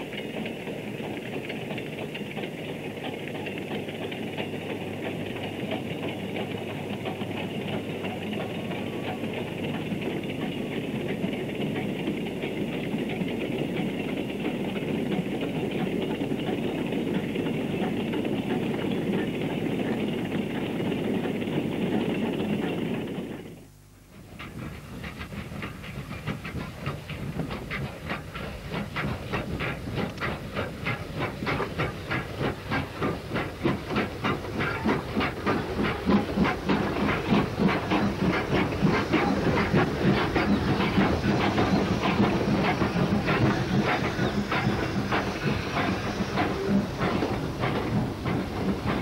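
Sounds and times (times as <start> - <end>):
steam locomotive exhaust beats: 0.0 - 49.0.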